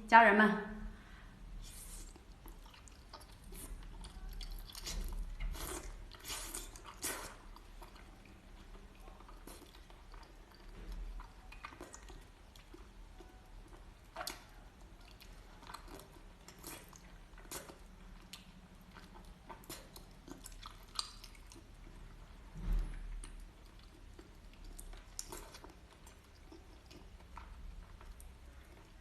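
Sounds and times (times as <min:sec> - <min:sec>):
chewing and crunching: 0:01.6 - 0:29.0.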